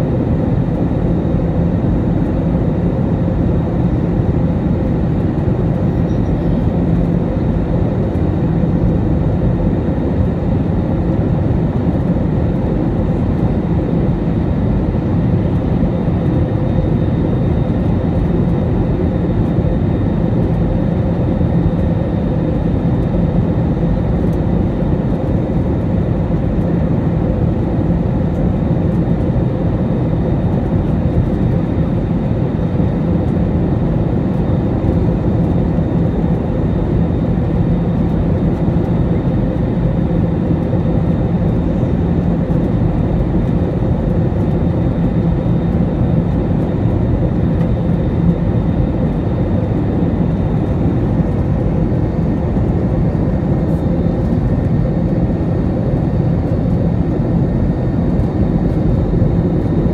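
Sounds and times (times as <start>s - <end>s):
airplane cabin engine and airflow rush: 0.0s - 59.9s
faint humming tones: 0.0s - 59.9s.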